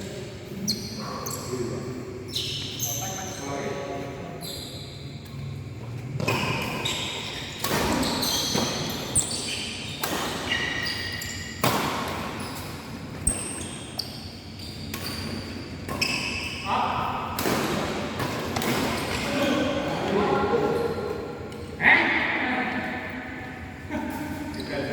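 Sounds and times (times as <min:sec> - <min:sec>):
shoes squeaking on court floor: 0:00.5 - 0:21.8, 0:24.2 - 0:24.9.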